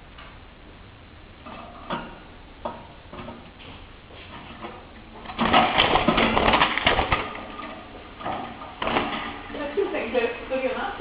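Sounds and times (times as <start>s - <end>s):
fire crackling in fireplace: 0.0s - 11.0s.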